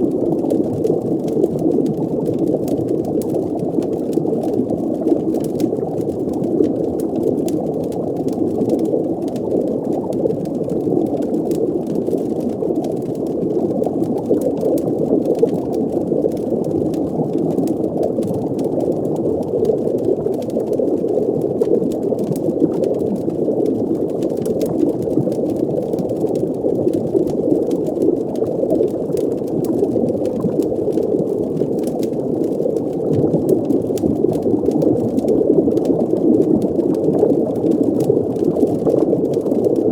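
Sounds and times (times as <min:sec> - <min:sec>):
faint fire crackles: 0:00.0 - 0:39.9
underwater bubbling water: 0:00.0 - 0:39.9.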